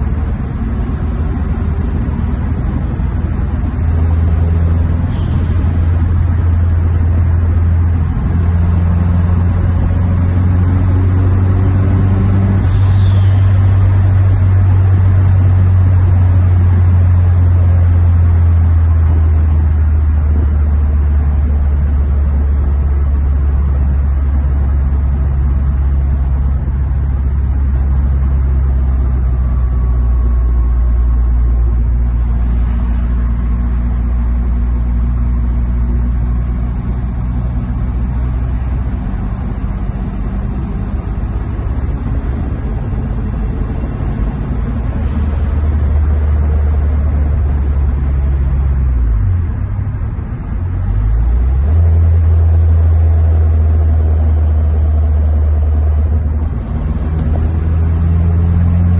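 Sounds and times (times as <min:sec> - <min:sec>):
car engine droning: 0:00.0 - 0:58.9
road noise: 0:00.0 - 0:58.9.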